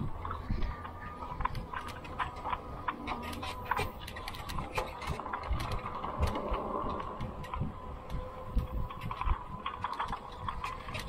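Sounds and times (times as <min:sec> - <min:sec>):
bike clicks and rattles: 0:00.0 - 0:11.0
hub motor whine: 0:00.0 - 0:11.0.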